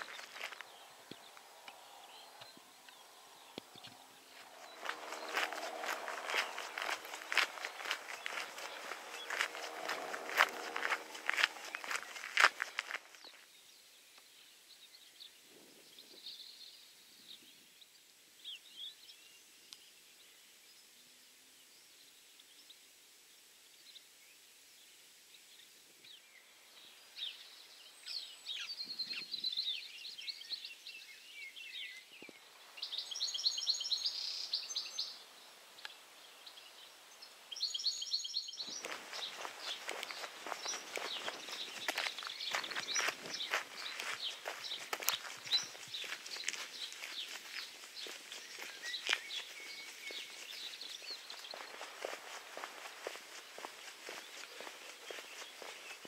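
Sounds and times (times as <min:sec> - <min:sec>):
birds chirping: 0:00.0 - 0:17.6, 0:26.1 - 0:56.0.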